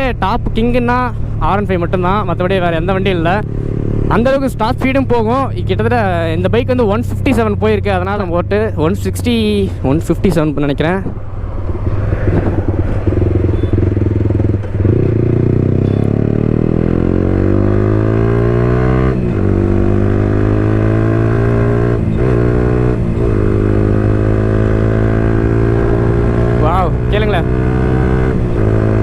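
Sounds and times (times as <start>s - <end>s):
motorcycle engine accelerating: 1.9s - 9.5s, 11.1s - 29.0s.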